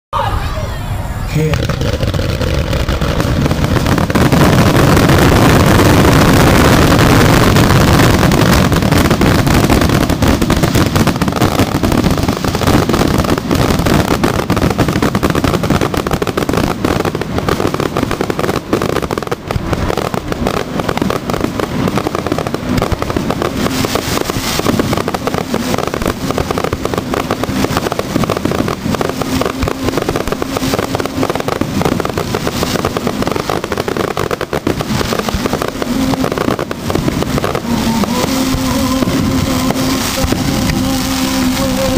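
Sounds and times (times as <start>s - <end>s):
fireworks bursting and crackling: 0.2s - 41.9s.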